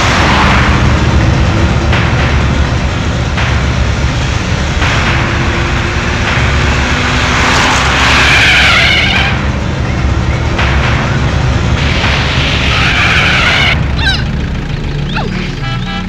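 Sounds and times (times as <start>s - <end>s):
car engine racing: 0.0s - 16.0s.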